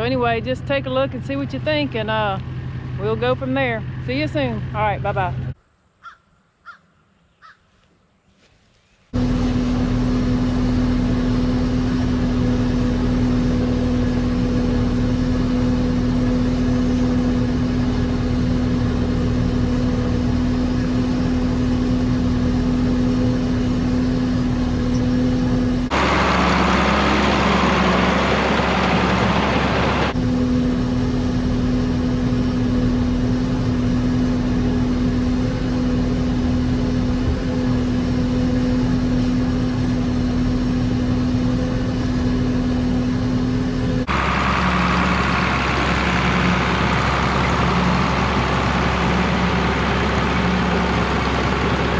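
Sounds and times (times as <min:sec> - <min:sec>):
tractor engine running: 0:00.0 - 0:05.6, 0:09.1 - 0:51.9
rough low machinery noise: 0:00.0 - 0:05.8, 0:07.4 - 0:51.9.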